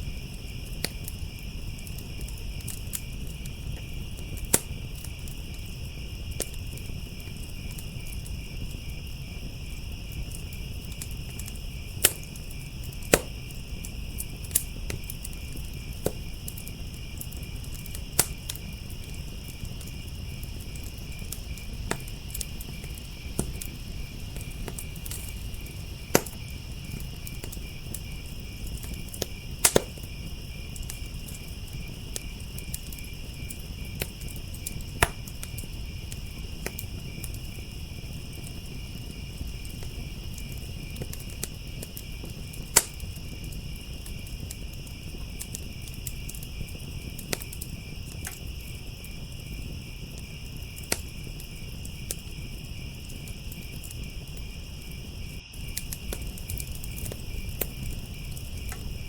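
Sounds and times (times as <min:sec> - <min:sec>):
crickets chirping: 0:00.0 - 0:59.0
wood fire crackling and popping: 0:00.0 - 0:59.0.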